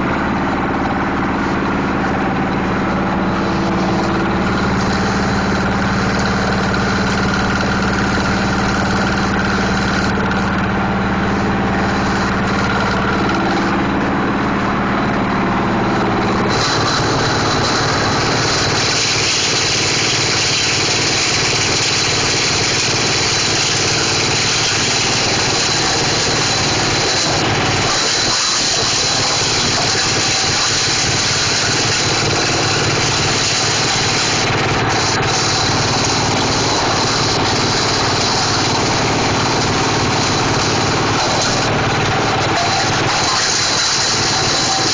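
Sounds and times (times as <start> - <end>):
plastic shredder machine humming: 0.0 - 44.9.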